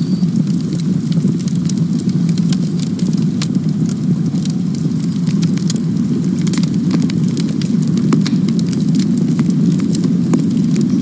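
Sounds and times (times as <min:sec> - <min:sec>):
burning wood crackling and popping: 0:00.0 - 0:11.0
campfire flames rumbling: 0:00.0 - 0:11.0.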